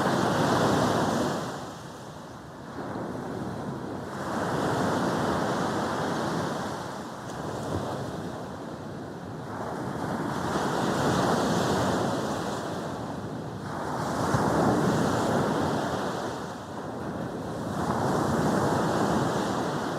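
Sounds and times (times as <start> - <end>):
sea waves breaking on beach: 0.0 - 19.9.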